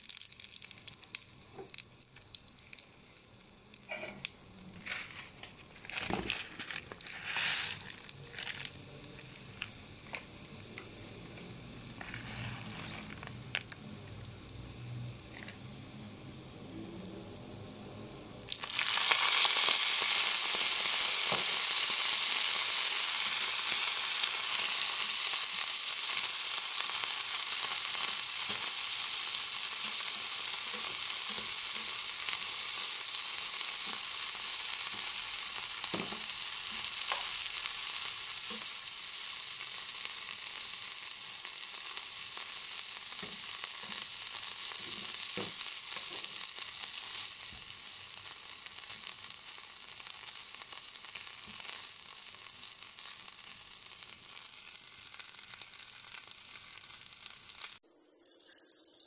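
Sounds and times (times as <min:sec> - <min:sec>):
insects sizzling in frying pan: 0:00.0 - 0:59.0.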